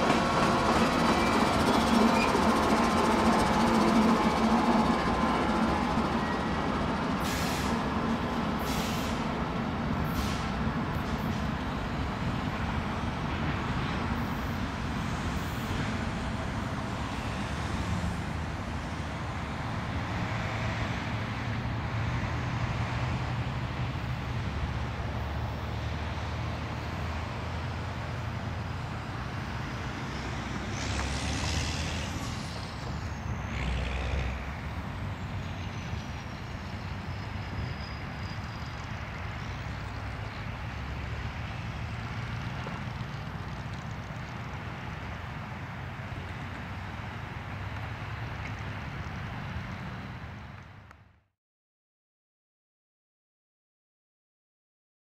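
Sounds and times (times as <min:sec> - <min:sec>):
freight train rolling past: 0:00.0 - 0:47.5
diesel locomotive hum: 0:00.0 - 0:51.3.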